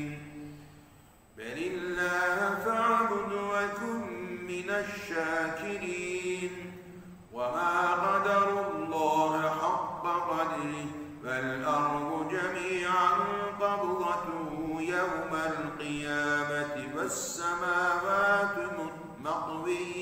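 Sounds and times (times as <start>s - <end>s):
man chanting melodically: 0.0s - 0.7s, 1.4s - 20.0s.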